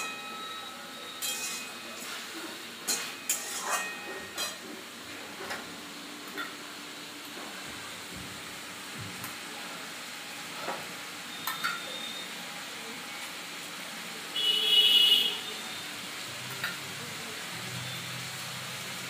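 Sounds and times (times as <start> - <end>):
oil sizzling on a pan: 0.0 - 19.0.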